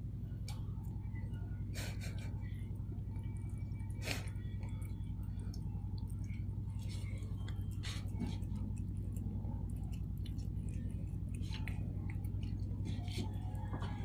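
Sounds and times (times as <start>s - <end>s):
steady low hum: 0.0s - 14.0s
cat chewing and licking: 0.3s - 14.0s.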